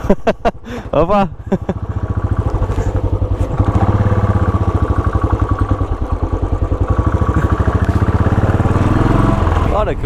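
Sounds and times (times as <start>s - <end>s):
single-cylinder motorcycle engine running: 1.6s - 10.0s.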